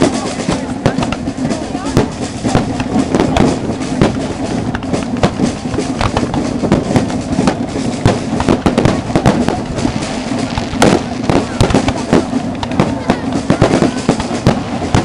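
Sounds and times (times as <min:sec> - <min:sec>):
fireworks banging and crackling: 0:00.0 - 0:15.0.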